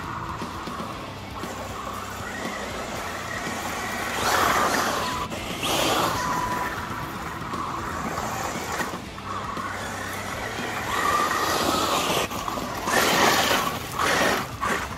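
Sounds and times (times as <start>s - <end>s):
electric motor whining: 0.0s - 14.9s
tyres scrabbling on gravel: 0.0s - 14.9s.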